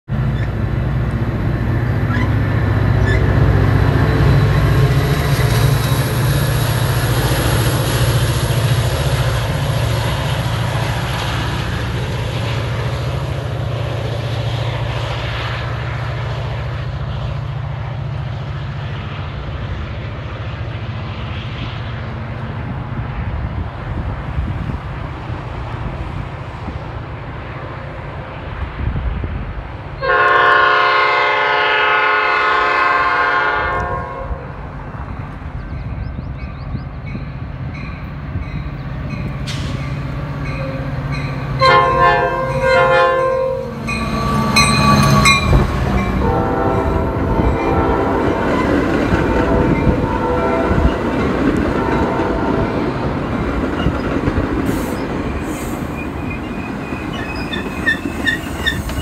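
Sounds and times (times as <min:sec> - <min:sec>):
diesel locomotive engine drone: 0:00.0 - 0:59.0
rolling rail noise: 0:00.0 - 0:59.0.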